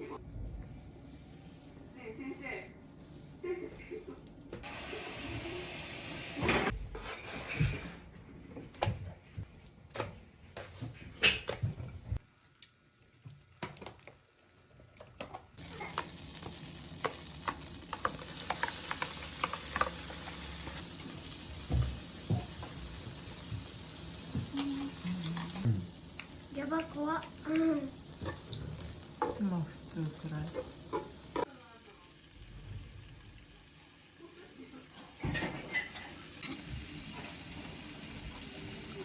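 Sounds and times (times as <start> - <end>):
food sizzling in a frying pan: 0.0 - 6.7, 12.2 - 39.0.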